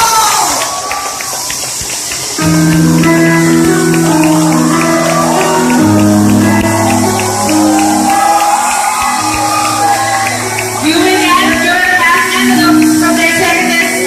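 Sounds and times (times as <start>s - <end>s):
steady ticking beat: 1.2s - 14.0s
held low chords: 2.4s - 14.0s.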